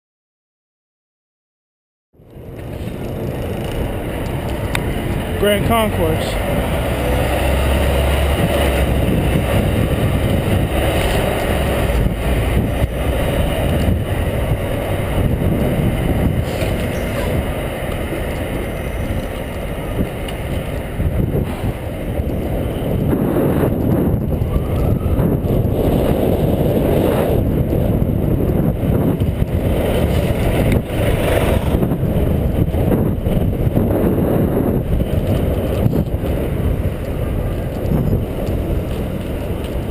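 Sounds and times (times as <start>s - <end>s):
city street traffic: 2.2s - 39.9s
wind rushing over microphone: 2.2s - 39.9s.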